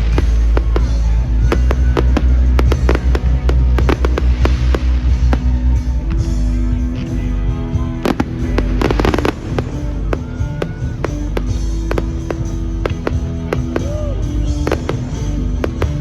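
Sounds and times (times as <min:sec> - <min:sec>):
fireworks bursting and crackling: 0:00.0 - 0:16.0
loud music: 0:00.0 - 0:16.0.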